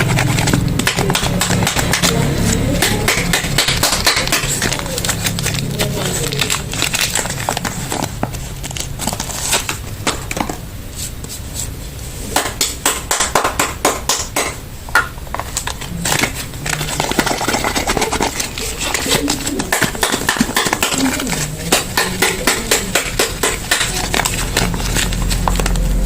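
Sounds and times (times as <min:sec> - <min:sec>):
packaging crinkling: 0:00.0 - 0:10.7, 0:15.2 - 0:26.0.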